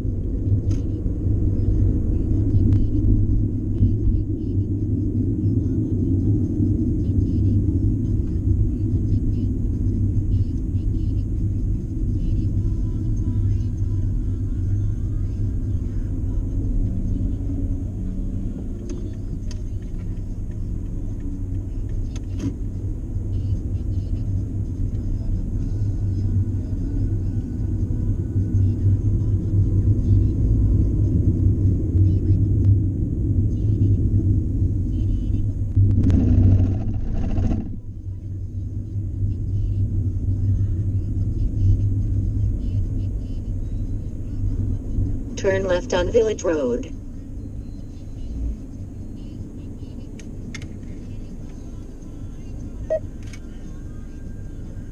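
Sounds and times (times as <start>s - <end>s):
car interior road noise: 0.0s - 54.9s.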